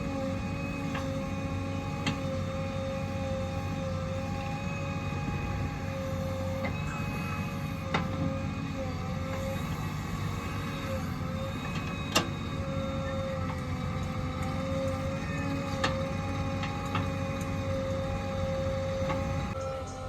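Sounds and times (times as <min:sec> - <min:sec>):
heavy diesel machinery whining: 0:00.0 - 0:20.0.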